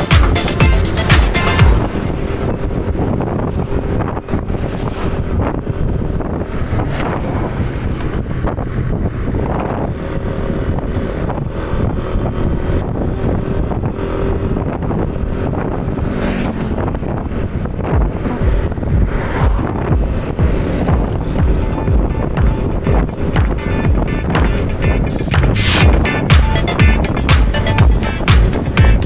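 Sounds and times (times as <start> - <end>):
road and engine noise: 0.0 - 29.0
wind noise on microphone: 0.0 - 29.0.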